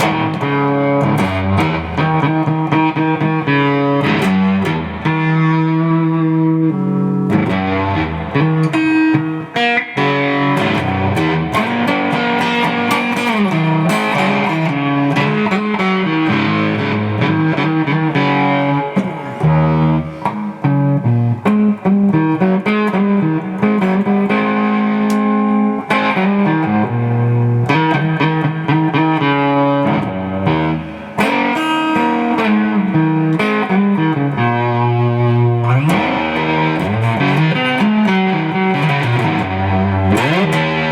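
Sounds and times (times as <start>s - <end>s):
electric guitar notes and chords: 0.0s - 40.9s.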